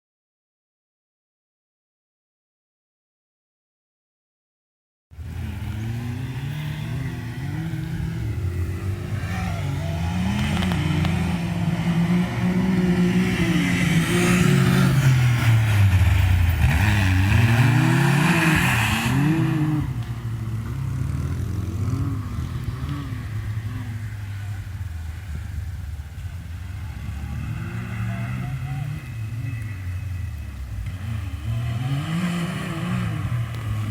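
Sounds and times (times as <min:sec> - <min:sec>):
utv engine revving: 0:05.2 - 0:33.9.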